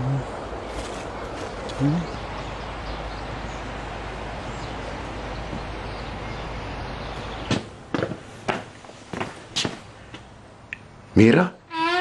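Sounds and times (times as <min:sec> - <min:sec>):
rural background hiss: 0:00.0 - 0:12.0.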